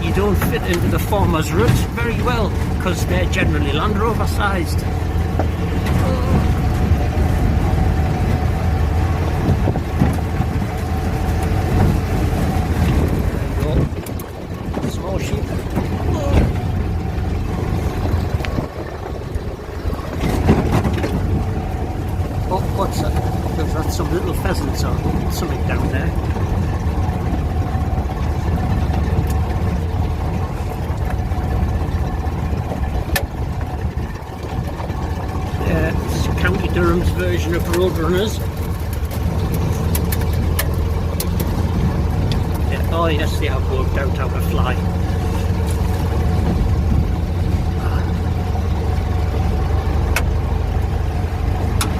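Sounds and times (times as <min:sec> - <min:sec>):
drivetrain whine: 0:00.0 - 0:51.9
engine low drone: 0:00.0 - 0:51.9.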